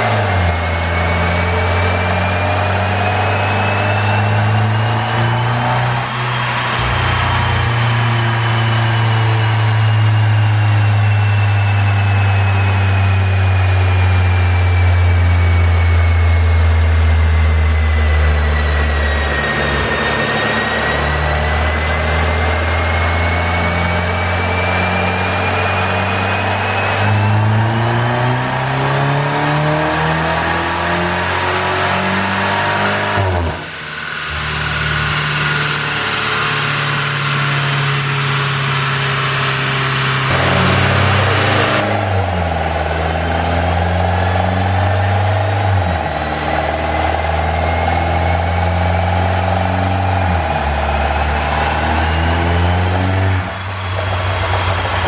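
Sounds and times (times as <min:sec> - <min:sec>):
car engine revving under load: 0:00.0 - 0:55.0
high whine: 0:00.0 - 0:55.0.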